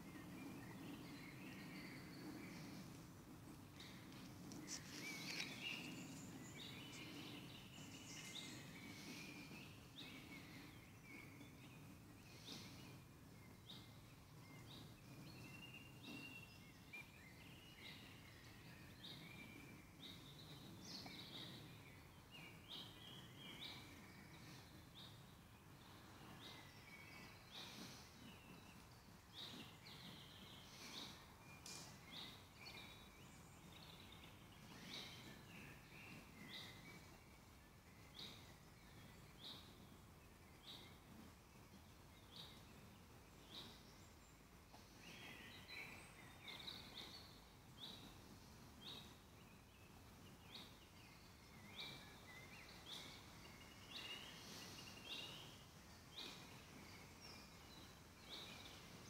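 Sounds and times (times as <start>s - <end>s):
birds chirping and trilling: 0.0s - 41.1s, 41.8s - 59.0s.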